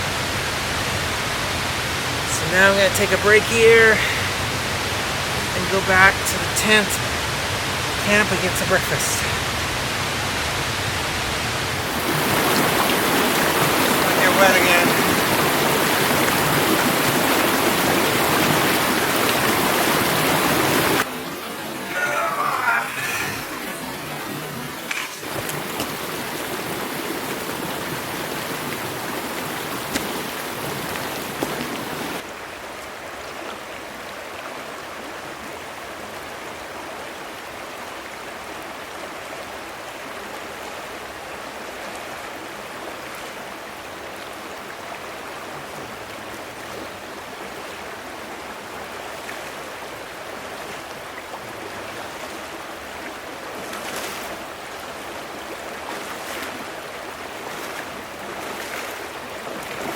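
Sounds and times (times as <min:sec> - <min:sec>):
rushing creek water: 0:00.0 - 0:59.9.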